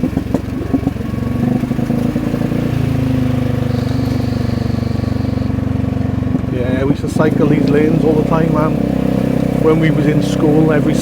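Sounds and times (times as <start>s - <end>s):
scooter engine through loud exhaust: 0.0s - 11.0s.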